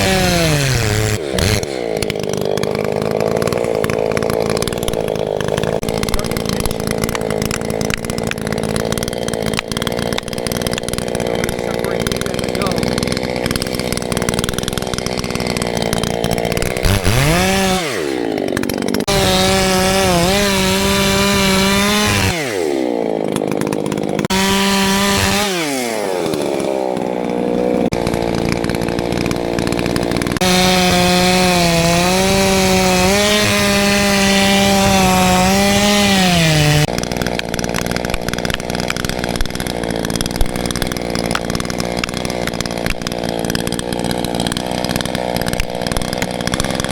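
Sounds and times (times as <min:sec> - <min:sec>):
chainsaw cutting wood: 0:00.0 - 0:46.9
electric chainsaw motor whining: 0:00.0 - 0:46.9.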